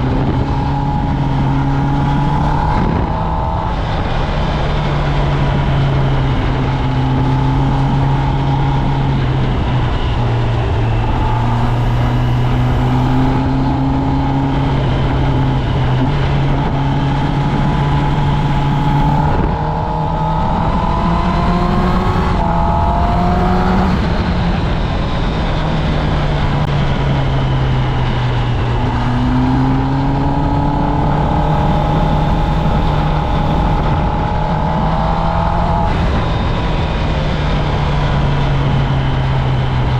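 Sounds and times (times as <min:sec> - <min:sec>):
motorcycle engine: 0:00.0 - 0:39.9
wind noise: 0:00.0 - 0:39.9.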